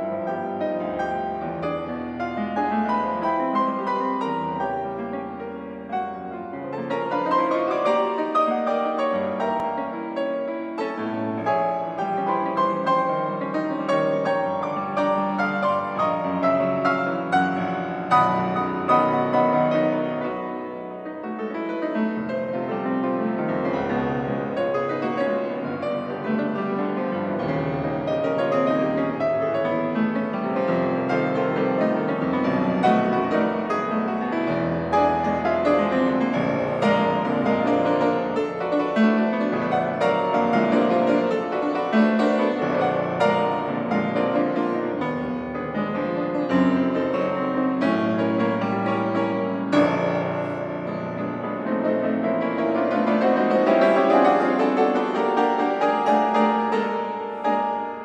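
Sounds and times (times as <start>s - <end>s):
solo grand piano: 0.0s - 58.0s.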